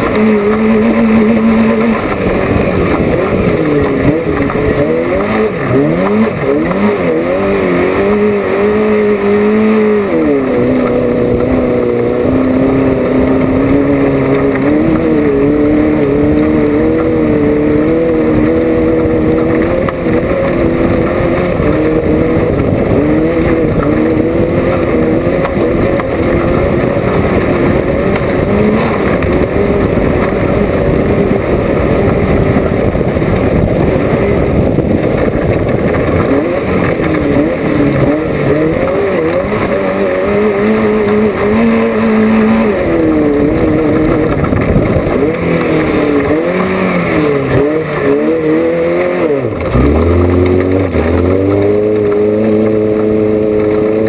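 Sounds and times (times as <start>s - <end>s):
race vehicle engine revving: 0.0s - 54.0s
rattle over rough ground: 0.0s - 54.0s.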